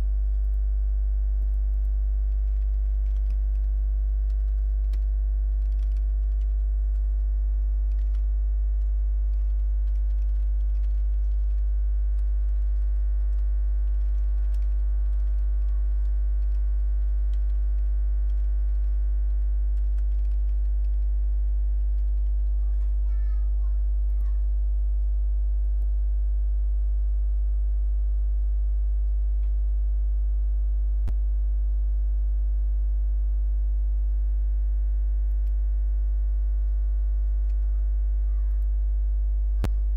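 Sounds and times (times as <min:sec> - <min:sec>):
loud electrical mains hum: 0:00.0 - 0:39.9.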